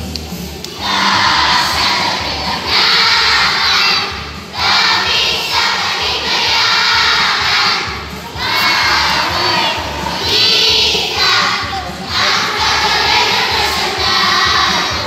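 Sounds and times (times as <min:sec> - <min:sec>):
children's choir singing: 0:00.7 - 0:15.0.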